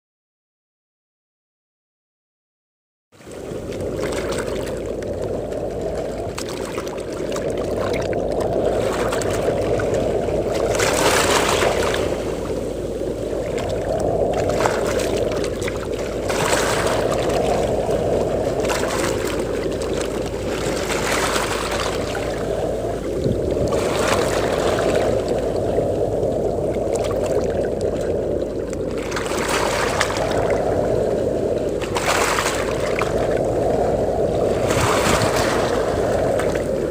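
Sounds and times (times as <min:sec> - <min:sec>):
low rumble of wind: 0:03.1 - 0:36.9
sea waves breaking on beach: 0:03.2 - 0:36.9.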